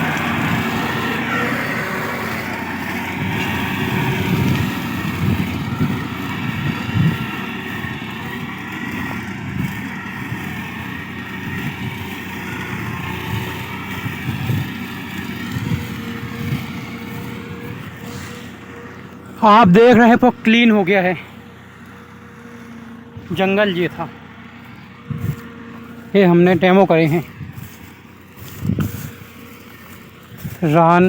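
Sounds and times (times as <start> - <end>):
mulcher shredding grass: 0.0 - 31.0
tractor engine running: 0.0 - 31.0.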